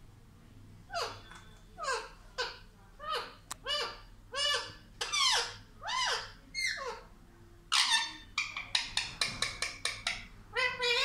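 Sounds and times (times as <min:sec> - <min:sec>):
parrot squawking: 0:00.9 - 0:07.1, 0:07.7 - 0:11.0.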